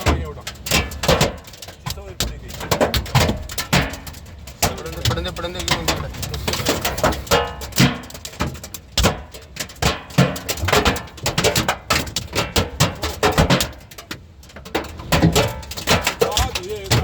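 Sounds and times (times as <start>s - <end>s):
hailstones clattering: 0.0s - 17.0s.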